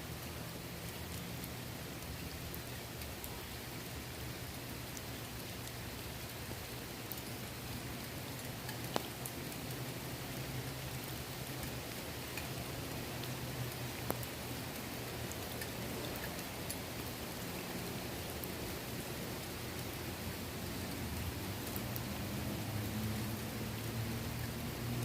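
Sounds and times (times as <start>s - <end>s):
rain falling on pool water: 0.0s - 25.0s.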